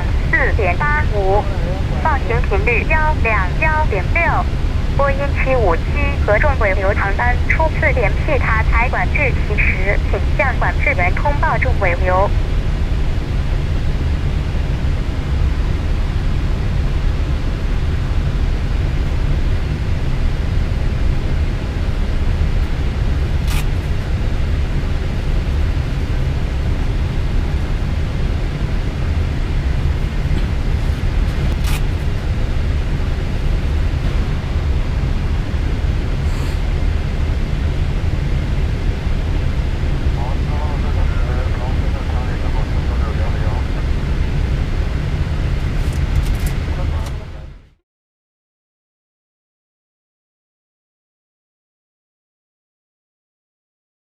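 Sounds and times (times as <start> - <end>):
aircraft cockpit engine rumble: 0.0 - 47.8.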